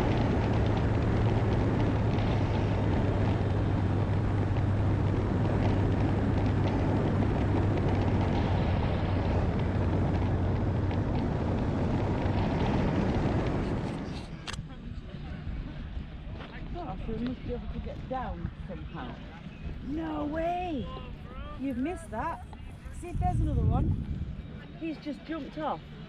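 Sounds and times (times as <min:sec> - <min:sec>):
motorcycle engine hum: 0:00.0 - 0:26.0.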